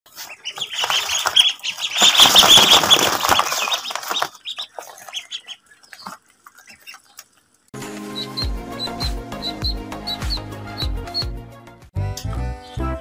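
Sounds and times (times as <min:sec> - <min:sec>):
ducklings peeping: 0:00.1 - 0:07.2, 0:08.0 - 0:11.3.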